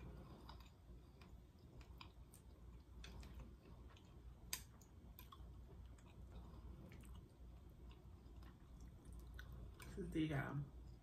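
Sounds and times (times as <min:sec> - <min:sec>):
faint chewing: 0:00.0 - 0:10.1.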